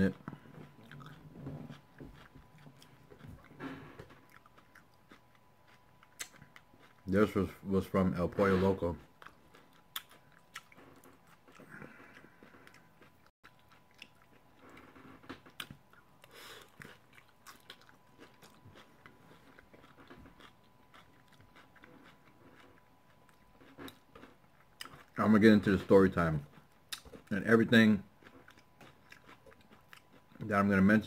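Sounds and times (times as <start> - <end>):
crunching and chewing: 0.0 - 31.0.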